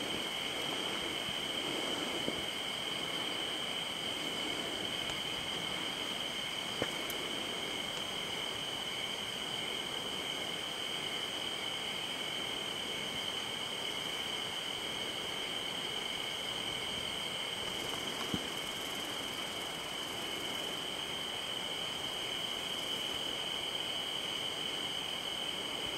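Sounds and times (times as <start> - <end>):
crickets trilling: 0.0 - 25.9.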